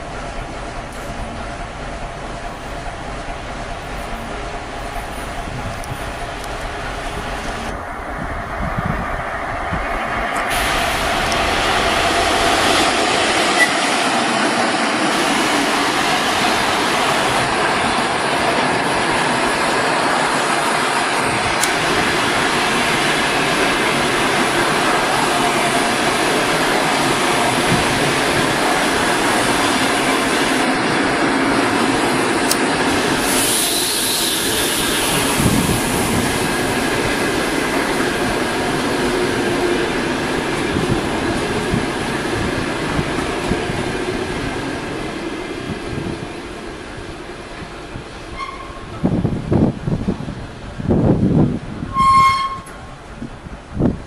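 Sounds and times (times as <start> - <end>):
passenger train passing: 0.0 - 54.0
train wheels on rails: 0.0 - 54.0.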